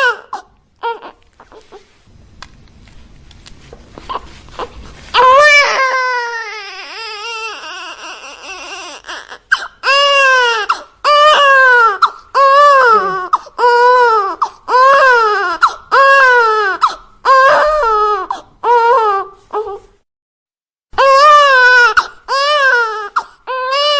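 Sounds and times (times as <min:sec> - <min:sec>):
baby crying: 0:00.0 - 0:01.8, 0:04.1 - 0:19.9, 0:21.0 - 0:23.9.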